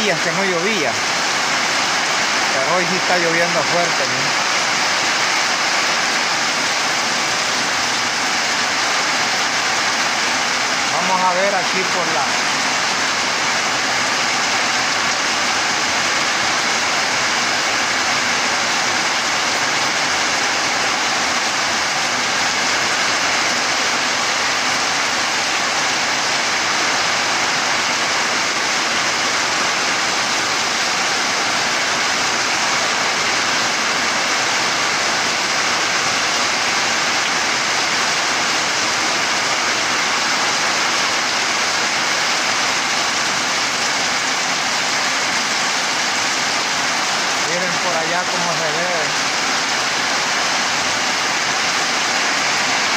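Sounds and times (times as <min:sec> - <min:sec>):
heavy rain falling: 0:00.0 - 0:52.9
water streaming off roof: 0:00.0 - 0:52.9.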